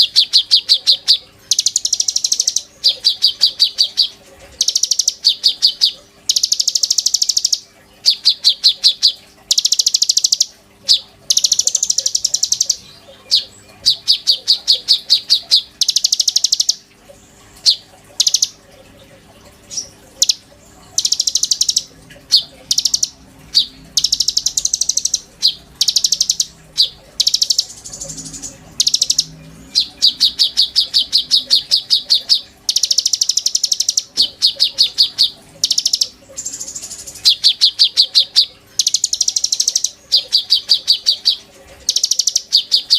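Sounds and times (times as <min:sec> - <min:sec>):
bird chattering song: 0:00.0 - 0:16.9, 0:17.6 - 0:18.6, 0:19.6 - 0:42.9.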